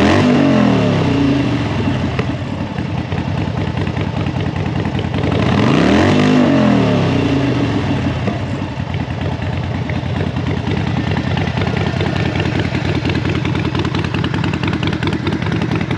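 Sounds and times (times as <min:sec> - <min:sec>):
motorcycle engine revving and idling: 0:00.0 - 0:15.9.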